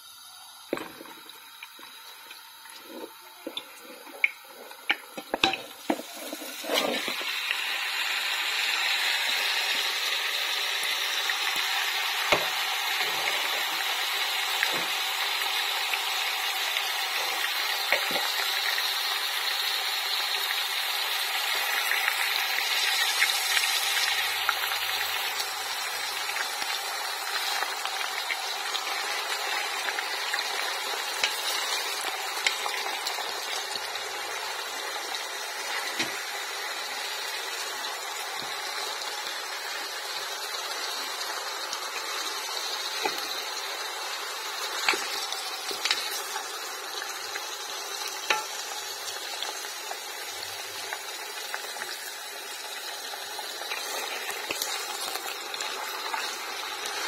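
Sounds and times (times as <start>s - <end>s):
meat sizzling in hot oil: 0.0s - 57.0s.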